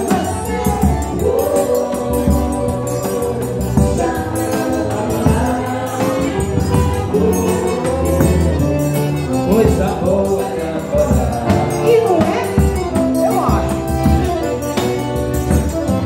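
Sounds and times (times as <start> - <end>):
man and woman singing: 0.0 - 14.4
bass drum: 0.0 - 16.0
piano accordion playing: 0.0 - 16.0.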